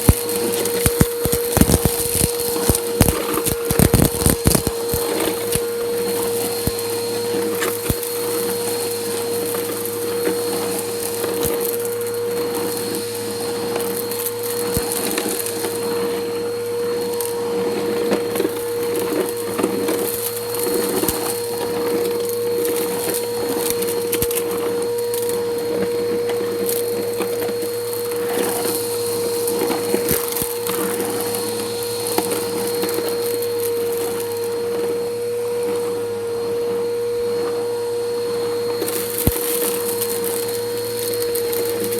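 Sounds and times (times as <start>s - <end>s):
debris crackling in vacuum: 0.0s - 41.9s
vacuum cleaner motor whine: 0.0s - 41.9s.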